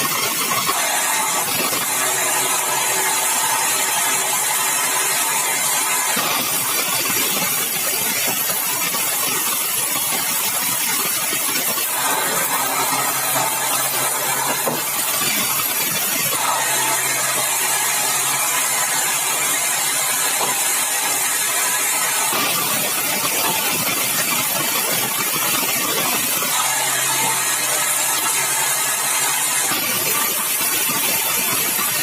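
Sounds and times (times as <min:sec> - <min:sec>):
sawmill saw cutting log: 0:00.0 - 0:32.0.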